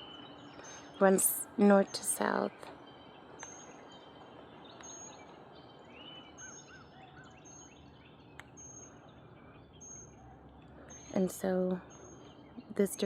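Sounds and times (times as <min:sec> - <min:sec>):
lower bird chirps: 0:00.0 - 0:13.0.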